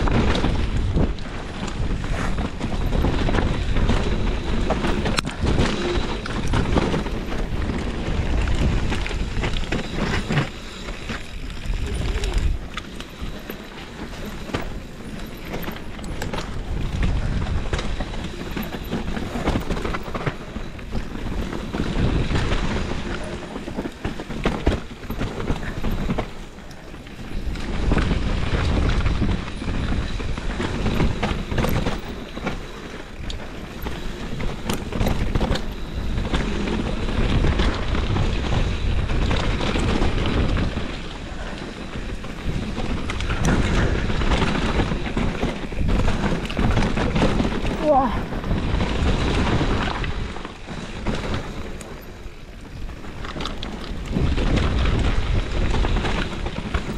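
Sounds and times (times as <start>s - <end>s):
bike chain and frame rattling: 0.0s - 56.9s
wind buffeting microphone: 0.0s - 56.9s.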